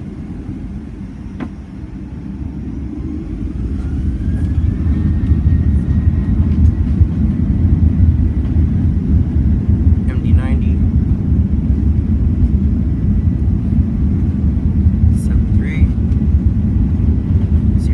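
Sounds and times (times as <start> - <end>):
deep engine rumble: 0.0 - 17.9
jet engine whine: 0.0 - 17.9.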